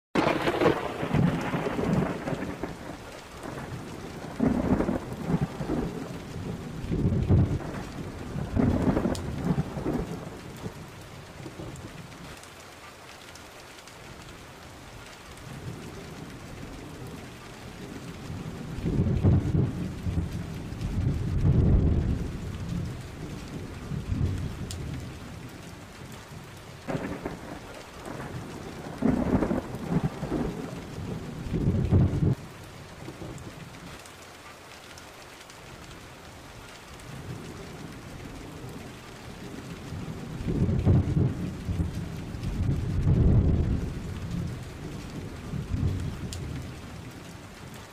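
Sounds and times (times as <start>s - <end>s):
thunder rumbling: 0.2s - 12.2s, 15.4s - 33.5s, 37.2s - 47.3s
steady rain: 0.2s - 47.9s.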